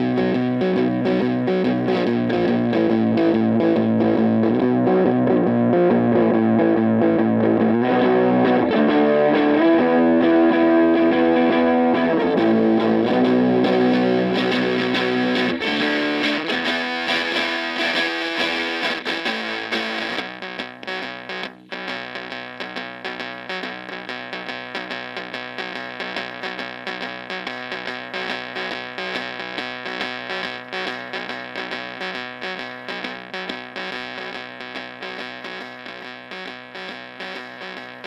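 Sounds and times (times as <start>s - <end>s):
fuzz-distorted electric guitar: 0.0s - 38.0s.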